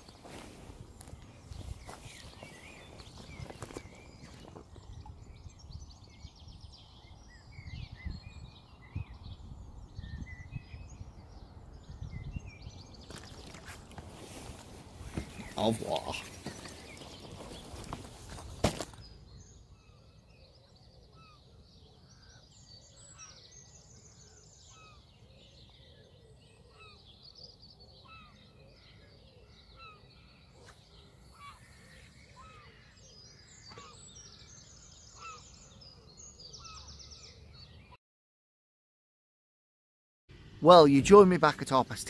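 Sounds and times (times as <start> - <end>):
low outdoor background: 0.0 - 38.0, 40.3 - 42.0
small birds chirping and trilling: 0.0 - 38.0.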